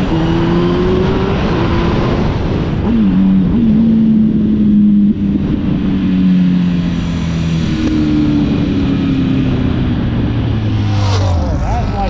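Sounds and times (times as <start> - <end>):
car engine droning: 0.0 - 12.0
road rumble: 0.0 - 12.0.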